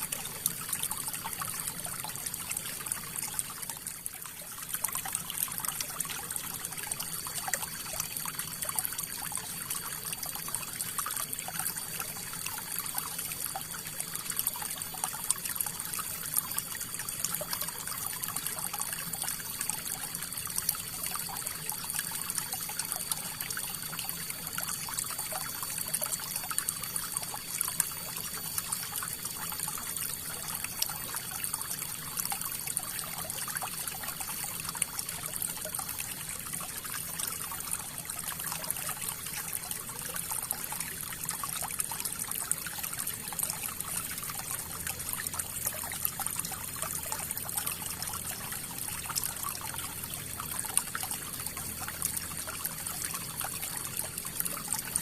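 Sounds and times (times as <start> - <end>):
river water trickling: 0.0 - 55.0.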